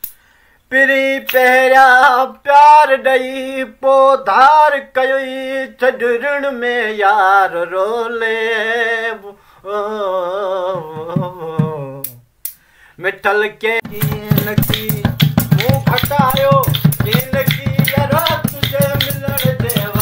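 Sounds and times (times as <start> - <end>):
man singing solo: 0.7 - 12.2, 13.0 - 20.0.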